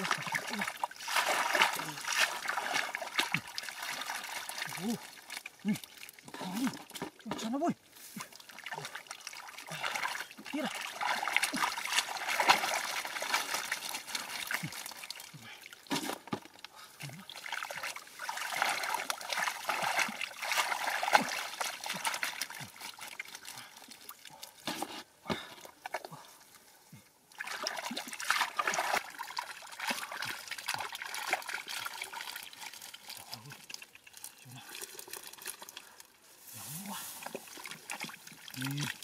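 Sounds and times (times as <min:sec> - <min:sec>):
wet mud sloshing: 0:00.0 - 0:26.5, 0:27.3 - 0:36.0, 0:36.6 - 0:39.0
muddy water trickling: 0:00.0 - 0:39.0.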